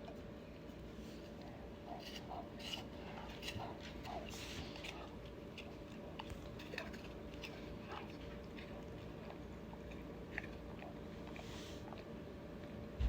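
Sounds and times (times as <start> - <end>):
dog crunching apple: 0.0 - 12.9
low steady hum: 0.0 - 13.0.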